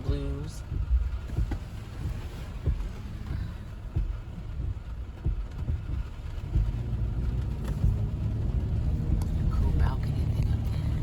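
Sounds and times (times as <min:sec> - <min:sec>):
road rumble inside car: 0:00.0 - 0:11.0
soft low thumps: 0:00.0 - 0:11.0.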